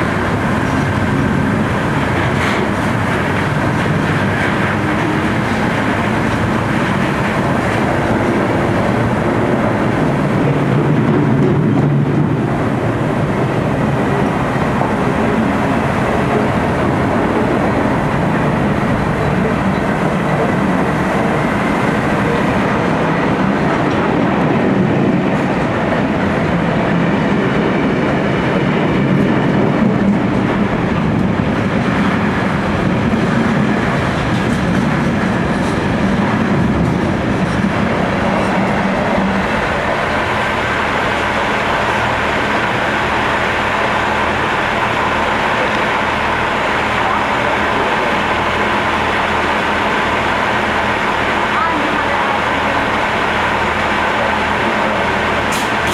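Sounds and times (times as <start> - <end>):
train wagons rolling past: 0.0 - 55.9.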